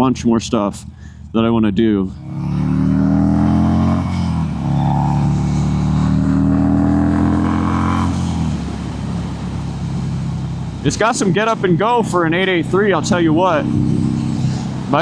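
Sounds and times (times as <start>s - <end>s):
motorcycle accelerating hard: 2.0s - 15.0s.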